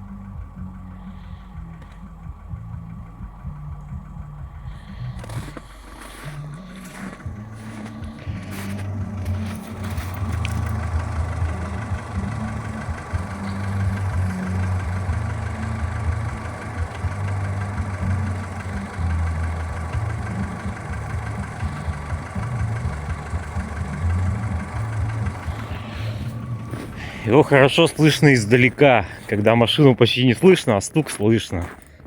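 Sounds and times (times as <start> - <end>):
car engine idling: 0.0 - 32.0
hydraulic lifters ticking: 0.0 - 32.0.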